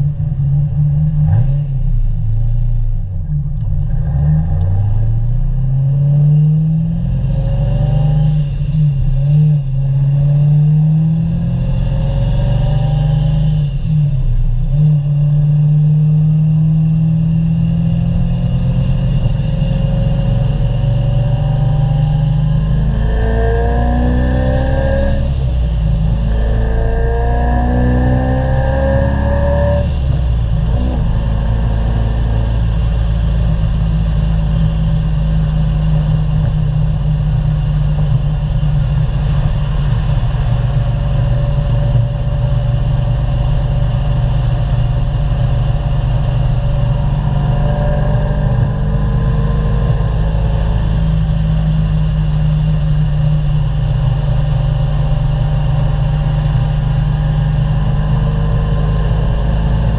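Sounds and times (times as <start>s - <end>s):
car engine drone from cabin: 0.0s - 59.9s.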